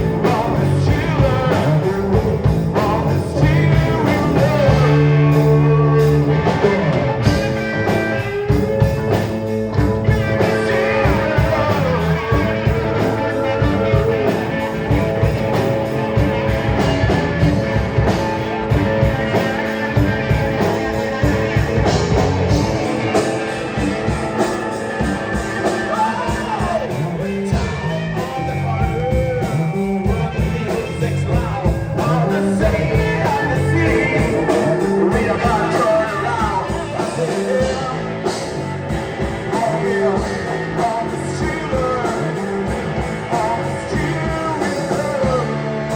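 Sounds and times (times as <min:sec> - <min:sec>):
guitar: 0:00.0 - 0:45.9
live rock band: 0:00.0 - 0:45.9
person singing: 0:00.0 - 0:45.9.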